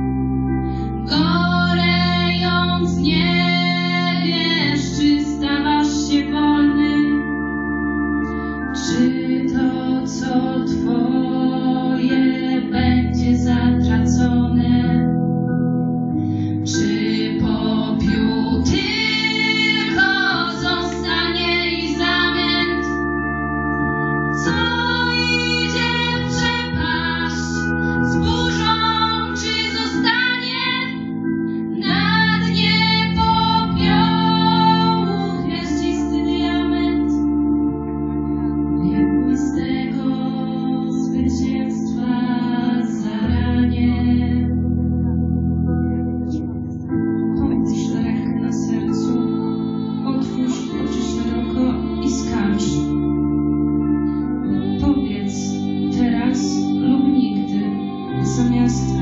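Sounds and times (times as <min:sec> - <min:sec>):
sustained instrumental chords: 0:00.0 - 0:59.0
two women singing: 0:01.0 - 0:07.3, 0:08.8 - 0:15.1, 0:16.6 - 0:23.0, 0:24.3 - 0:37.2, 0:38.8 - 0:44.5, 0:47.4 - 0:53.0, 0:54.4 - 0:59.0.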